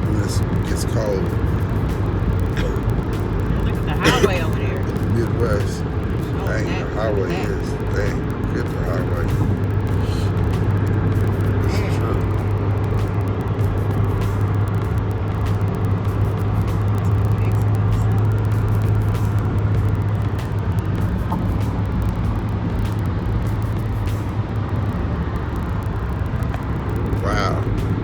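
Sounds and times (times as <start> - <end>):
car road noise drone: 0.0 - 28.0.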